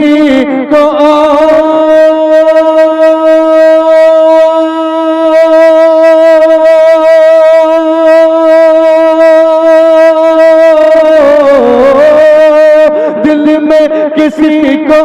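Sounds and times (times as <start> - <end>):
man singing a sustained note: 0.0 - 15.0.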